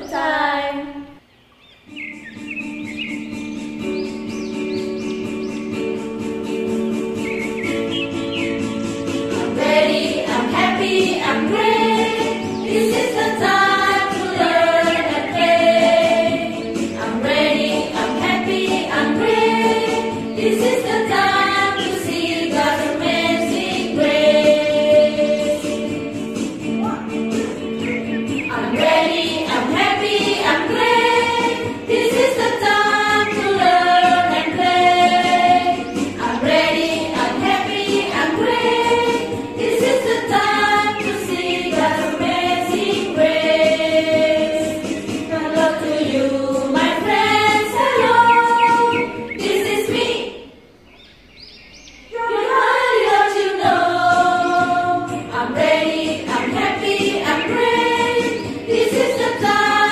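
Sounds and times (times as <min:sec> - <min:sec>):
women singing together: 0:00.0 - 0:01.2, 0:09.3 - 0:26.4, 0:28.0 - 0:50.6, 0:52.1 - 0:59.9
backing music: 0:01.8 - 0:50.6, 0:52.2 - 0:59.9.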